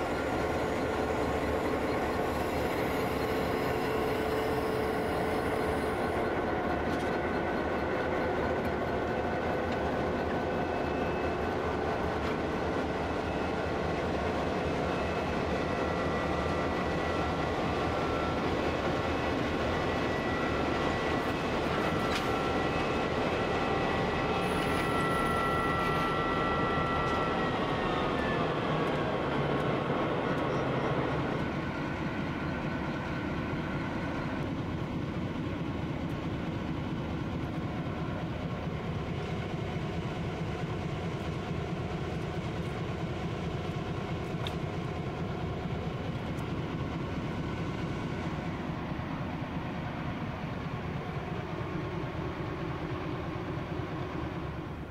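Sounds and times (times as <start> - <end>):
diesel locomotive engines running: 0.0 - 54.9
steady high whine: 0.0 - 54.9.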